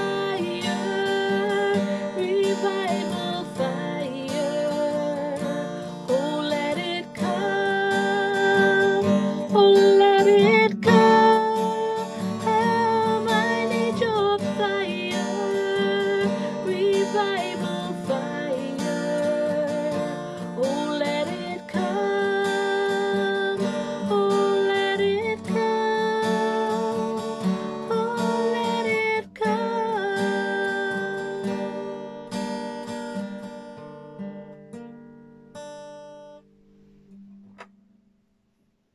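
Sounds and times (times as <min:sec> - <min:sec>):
woman singing: 0:00.0 - 0:32.1
acoustic guitar strumming: 0:00.0 - 0:38.4.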